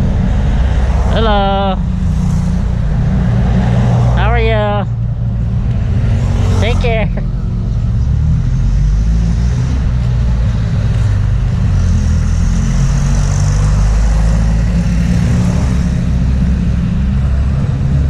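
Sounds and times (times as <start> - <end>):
rumble of passing vehicles: 0.0 - 18.0.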